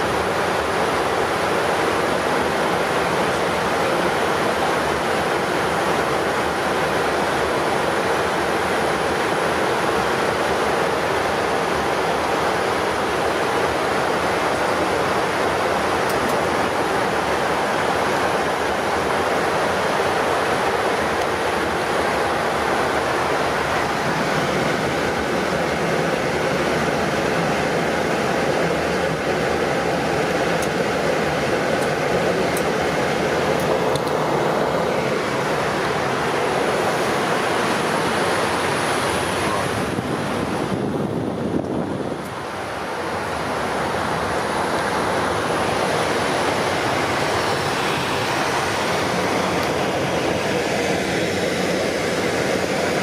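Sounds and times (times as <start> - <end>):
airflow and air-conditioning hiss: 0.0 - 53.0
jet engines droning: 0.0 - 53.0.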